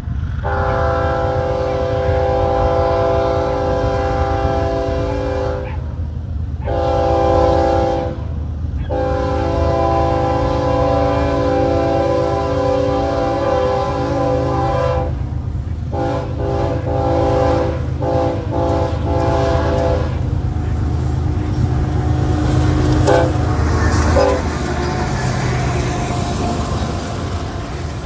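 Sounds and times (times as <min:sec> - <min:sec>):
locomotive engine rumble: 0:00.0 - 0:28.0
locomotive air horn blasts: 0:00.4 - 0:05.7, 0:06.6 - 0:08.3, 0:08.9 - 0:28.0.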